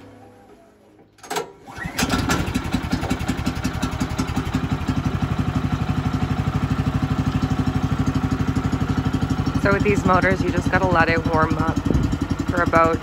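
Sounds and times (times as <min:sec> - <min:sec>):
small gasoline engine idling: 0:01.7 - 0:13.0.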